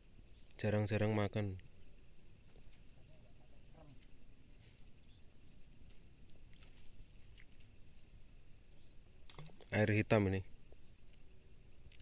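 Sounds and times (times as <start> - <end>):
insect chirp pulsing: 0.0 - 12.0
insect high-pitched trill: 0.0 - 12.0.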